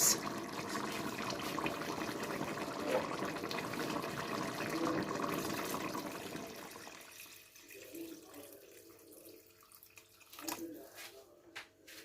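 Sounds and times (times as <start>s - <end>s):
water pouring into a pot: 0.0s - 10.8s.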